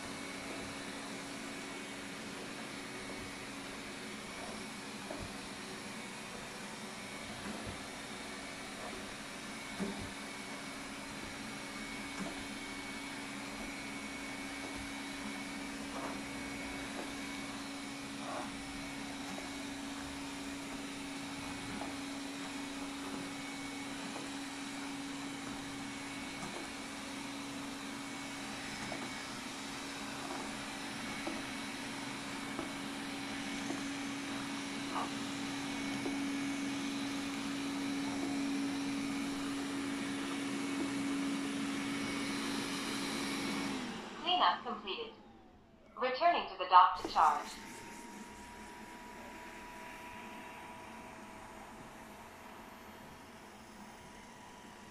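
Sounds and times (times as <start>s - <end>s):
robot vacuum humming: 0.0s - 46.0s, 46.8s - 54.9s.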